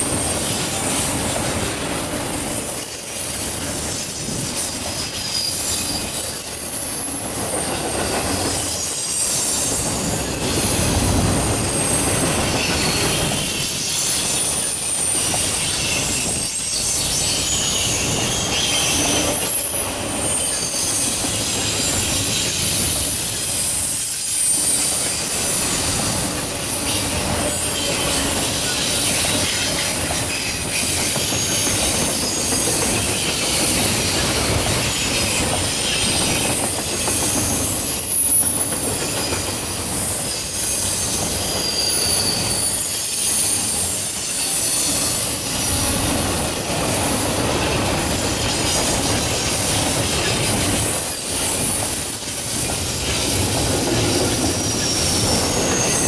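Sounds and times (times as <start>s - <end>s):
high wavering wheel squeal: 0.0s - 56.0s
train wheels rumbling on rail: 0.0s - 56.0s.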